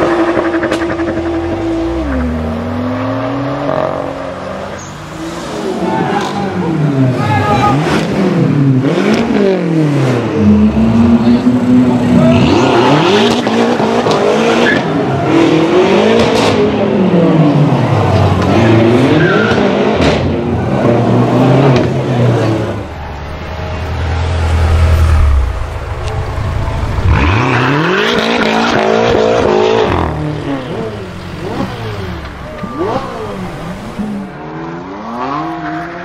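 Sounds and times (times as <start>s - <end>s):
car accelerating hard: 0.0s - 22.8s, 23.5s - 36.0s
car engine revving in tunnel: 0.0s - 36.0s.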